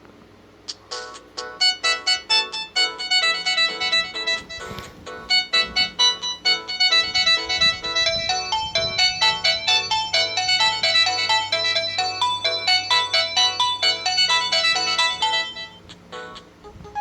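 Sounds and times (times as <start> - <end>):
mobile phone ringtone melody: 0.9 - 17.0.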